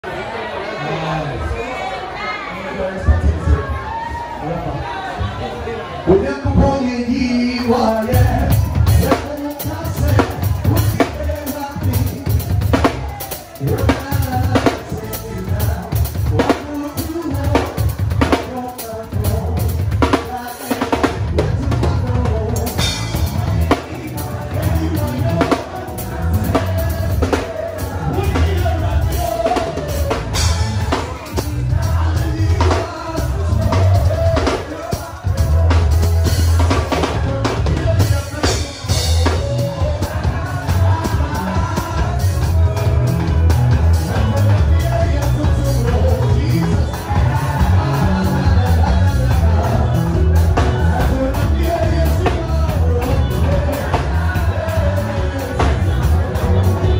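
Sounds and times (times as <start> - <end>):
band music with drum kit: 6.1 - 56.9
bass line: 6.1 - 56.9.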